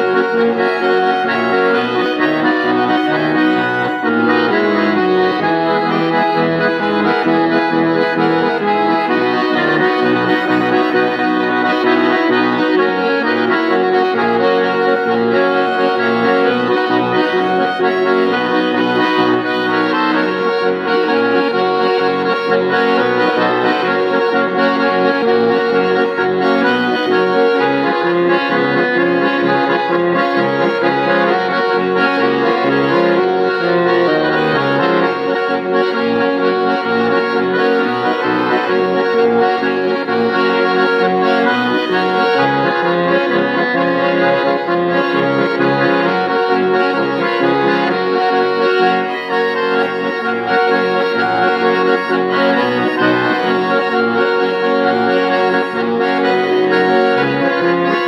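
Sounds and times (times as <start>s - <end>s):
accordion folk tune: 0.0s - 58.0s.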